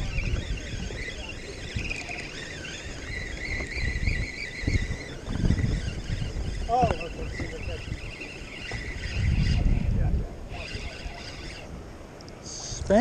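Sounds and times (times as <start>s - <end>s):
fishing reel gears whirring: 0.0s - 13.0s
wind rumbling on microphone: 0.0s - 13.0s.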